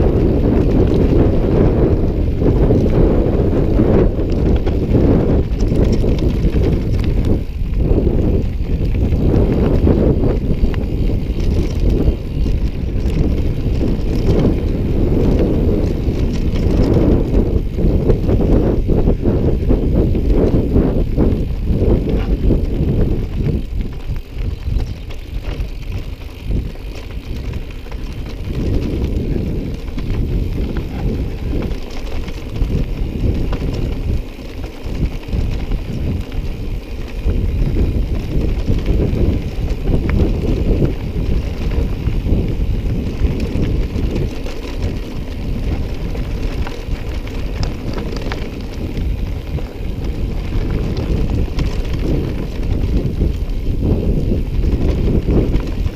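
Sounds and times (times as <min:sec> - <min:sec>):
bike rattling: 0:00.0 - 0:55.9
bike tyres rumbling on dirt: 0:00.0 - 0:55.9
wind on microphone: 0:00.0 - 0:55.9.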